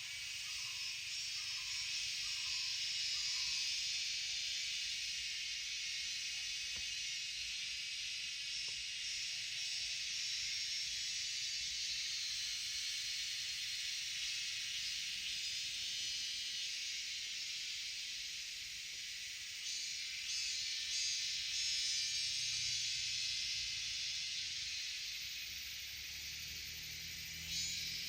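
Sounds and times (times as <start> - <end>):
insect chorus hiss: 0.0 - 28.0.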